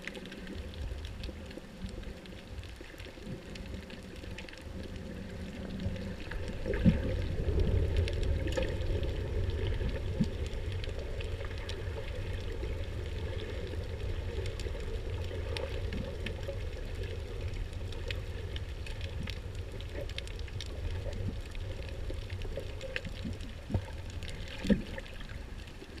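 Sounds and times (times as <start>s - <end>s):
faint crackling clicks: 0.0s - 26.0s
low rumble of moving water: 0.0s - 26.0s.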